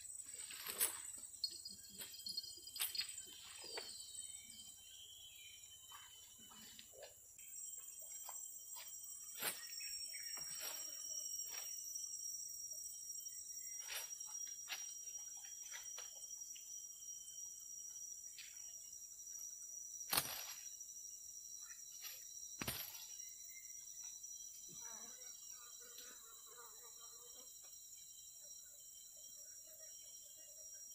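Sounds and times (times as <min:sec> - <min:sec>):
insect chorus: 0:00.0 - 0:30.9.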